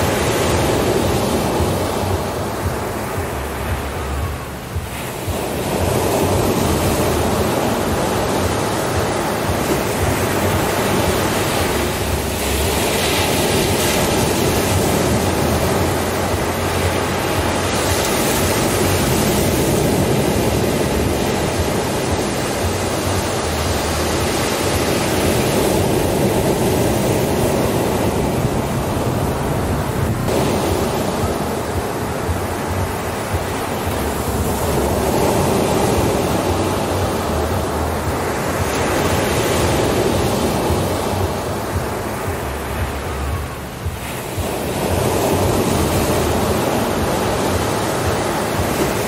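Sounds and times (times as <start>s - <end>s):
waves breaking on beach: 0.0s - 49.0s.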